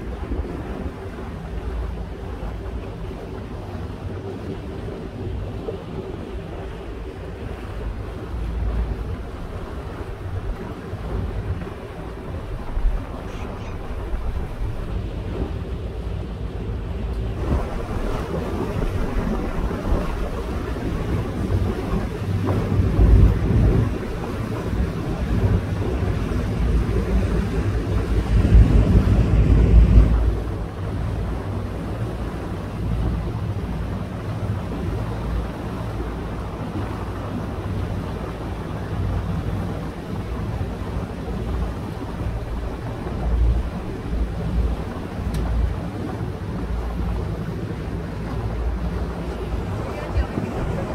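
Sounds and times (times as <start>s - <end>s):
boat engine drone: 0.0s - 50.9s
water rushing along hull: 0.0s - 50.9s
wind on microphone: 0.0s - 50.9s.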